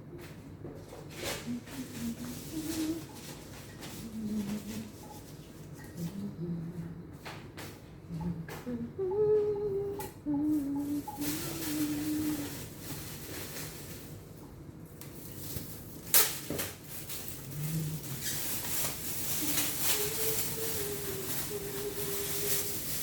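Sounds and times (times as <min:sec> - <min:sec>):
soft humming: 0:00.0 - 0:23.0.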